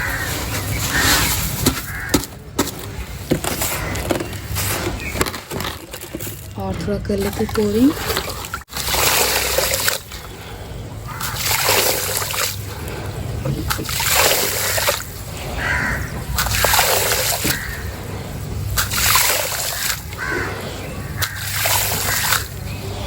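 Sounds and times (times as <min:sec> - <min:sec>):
water splashing onto cement mix: 0:00.0 - 0:10.5, 0:11.1 - 0:23.0.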